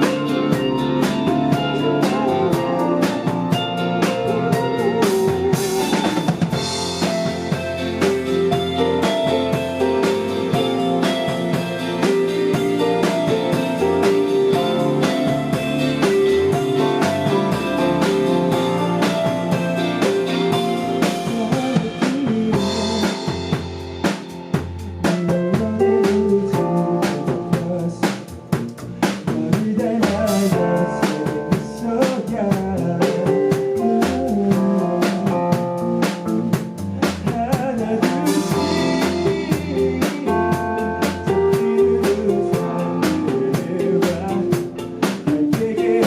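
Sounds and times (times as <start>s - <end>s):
band music with drum kit: 0.0s - 46.0s.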